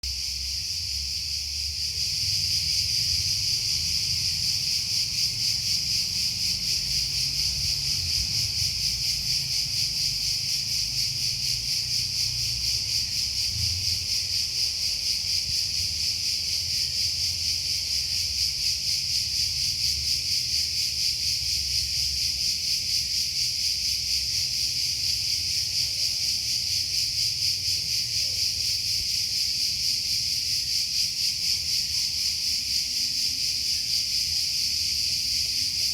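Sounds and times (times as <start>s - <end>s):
cicadas buzzing: 0.0s - 35.9s.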